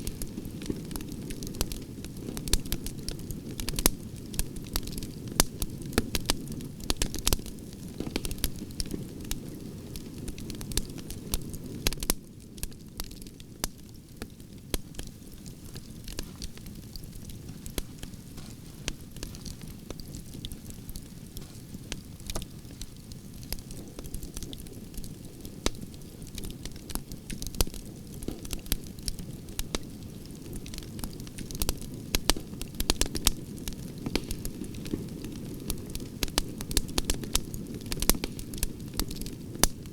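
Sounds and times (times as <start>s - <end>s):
campfire crackling and popping: 0.0s - 39.9s
low rush of flames: 0.0s - 39.9s.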